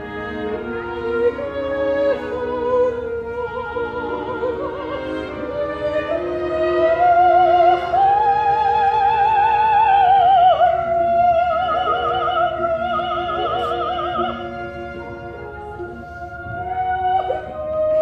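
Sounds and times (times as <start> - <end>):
orchestra playing: 0.0 - 18.0.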